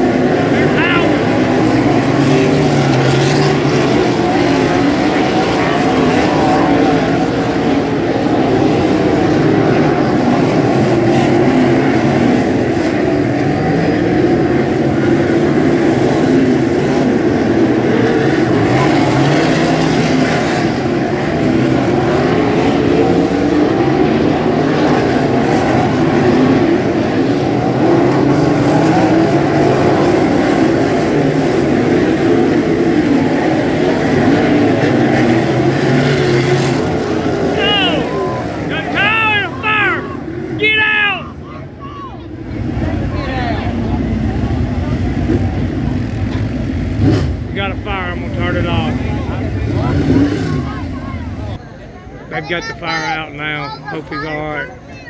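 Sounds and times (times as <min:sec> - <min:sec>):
race car engines passing: 0:00.0 - 0:55.0.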